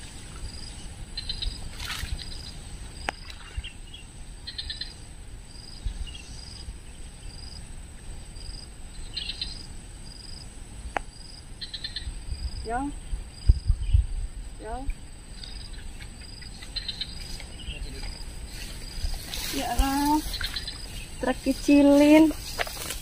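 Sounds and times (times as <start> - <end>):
rapid pulsed calls: 0.0 - 7.6, 11.4 - 23.0
high insect drone: 0.0 - 23.0.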